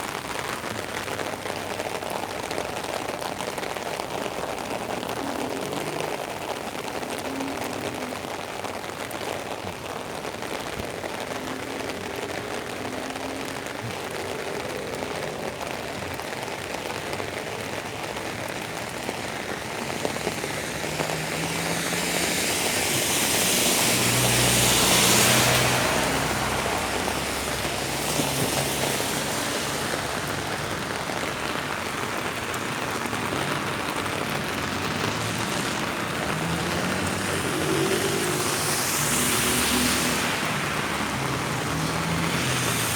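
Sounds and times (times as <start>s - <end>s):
rain falling on street: 0.0s - 42.9s
vehicle passing on wet road: 0.0s - 42.9s.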